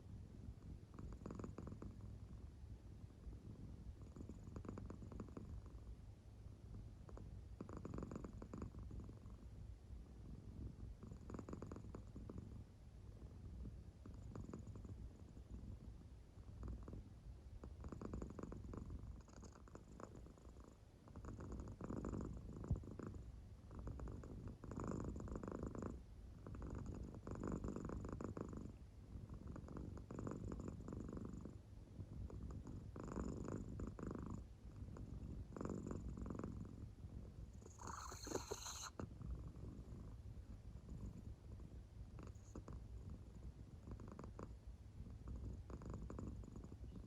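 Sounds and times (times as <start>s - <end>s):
cat purring: 0.0s - 47.0s.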